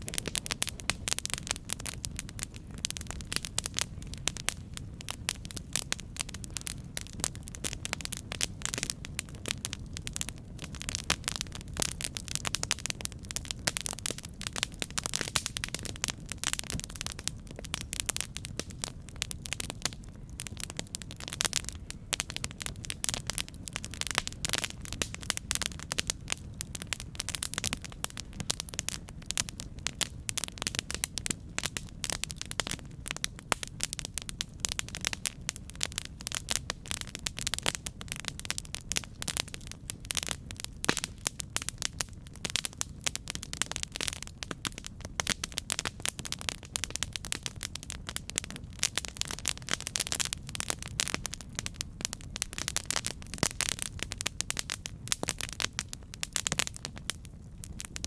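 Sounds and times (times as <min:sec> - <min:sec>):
campfire wood crackling and popping: 0:00.0 - 0:58.0
low rumble of flame: 0:00.0 - 0:58.0.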